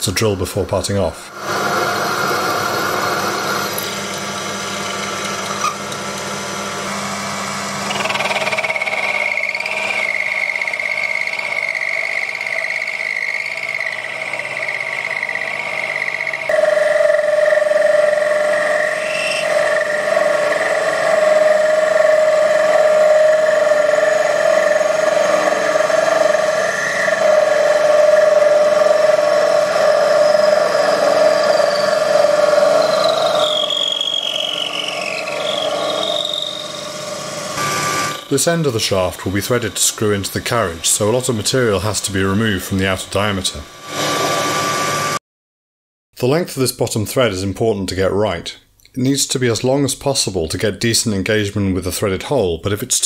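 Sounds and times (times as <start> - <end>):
drill boring metal on lathe: 1.3 - 45.2
parting tool cutting metal whine: 1.4 - 45.2.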